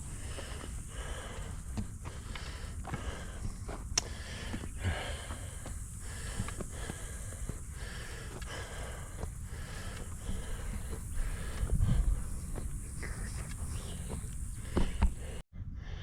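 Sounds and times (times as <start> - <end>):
person breathing hard: 0.0 - 16.0.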